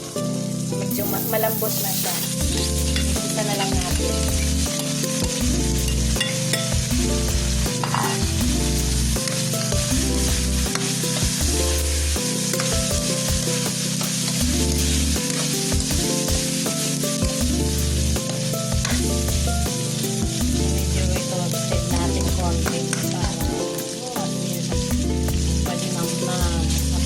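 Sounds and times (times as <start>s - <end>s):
background music: 0.0s - 27.0s
pork sizzling in hot oil: 0.0s - 27.0s.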